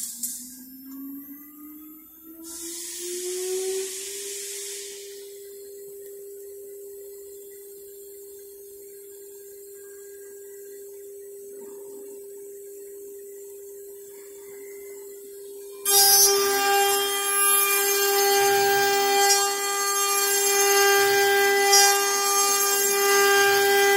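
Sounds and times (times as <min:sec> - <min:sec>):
router spindle motor whine: 0:00.0 - 0:11.4, 0:12.0 - 0:23.9.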